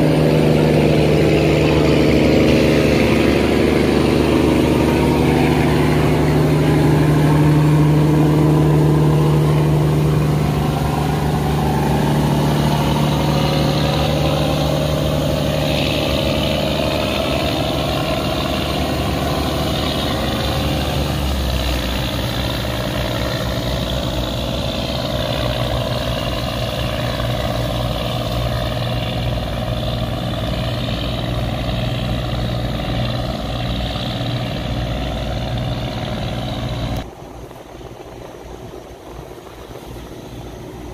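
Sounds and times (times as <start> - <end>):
boat engine running: 0.0 - 40.9.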